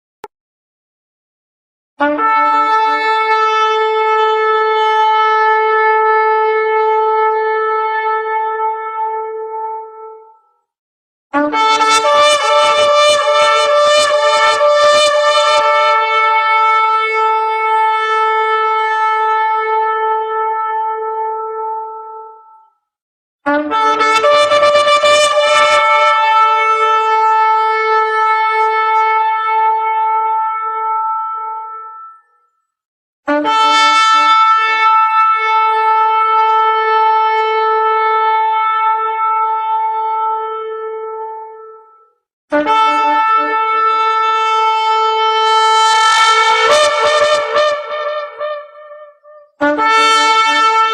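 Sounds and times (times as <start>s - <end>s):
shofar blast: 2.0s - 9.8s, 11.4s - 21.9s, 23.5s - 32.2s, 33.3s - 41.4s, 42.5s - 50.9s.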